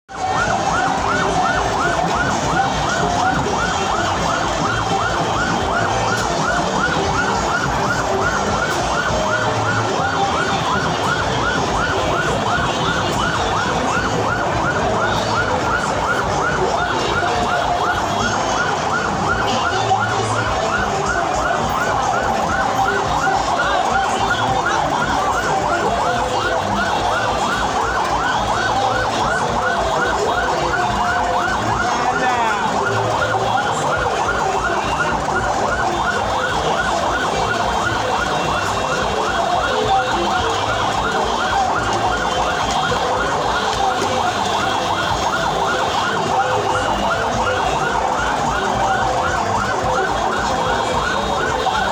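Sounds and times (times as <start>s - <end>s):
large crowd din: 0.0s - 51.9s
electronic siren yelping: 0.1s - 51.9s.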